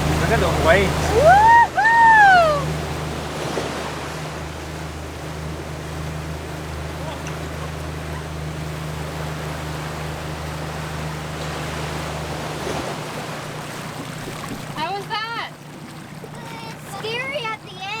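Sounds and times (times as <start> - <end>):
outboard motor humming: 0.0 - 18.0
water rushing: 0.0 - 18.0
wind: 0.0 - 18.0.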